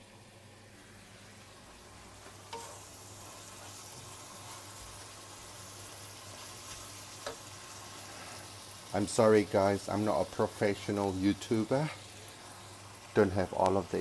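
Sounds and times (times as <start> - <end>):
chicken sizzling in oil in a pan: 0.0 - 14.0.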